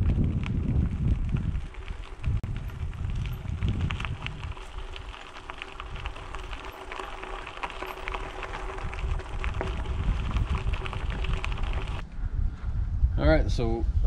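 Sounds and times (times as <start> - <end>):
bicycle tyres on gravel: 0.0 - 12.0
wind rumble on microphone: 0.0 - 14.0.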